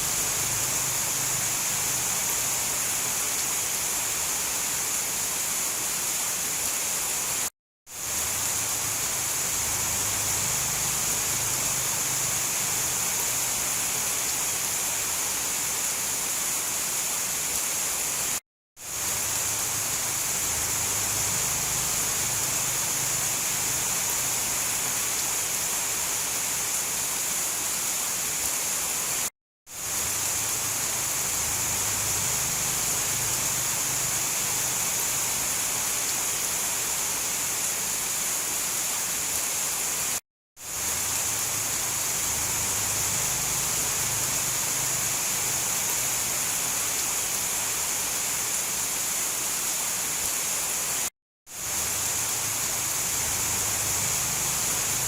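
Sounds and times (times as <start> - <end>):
heavy rain hiss: 0.0 - 55.0.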